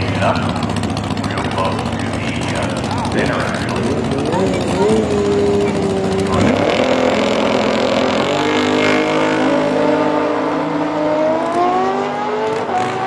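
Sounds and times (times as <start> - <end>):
drag racing car accelerating: 0.0 - 13.0
motorcycle accelerating: 0.0 - 13.0.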